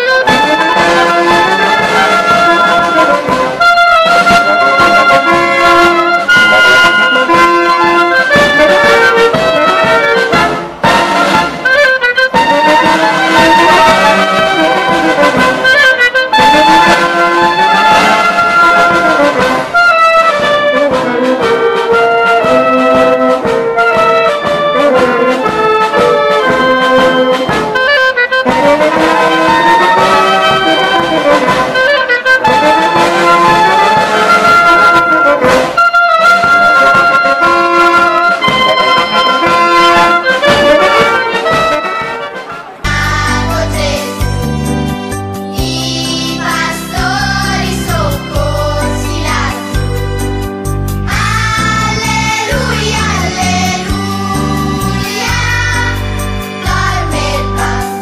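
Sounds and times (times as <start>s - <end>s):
drums keeping a beat: 0.0s - 58.0s
wind band playing: 0.0s - 58.0s.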